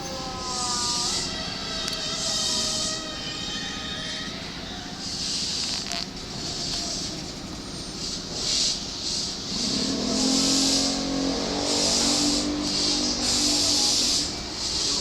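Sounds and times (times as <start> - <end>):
low train motor tone: 0.0 - 15.0
train hissing rush: 0.0 - 15.0.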